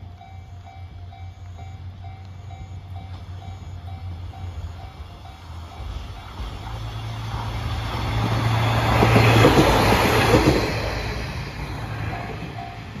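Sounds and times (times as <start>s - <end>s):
diesel railcar engine hum: 0.0s - 13.0s
wheels clacking over rail joints: 1.5s - 13.0s.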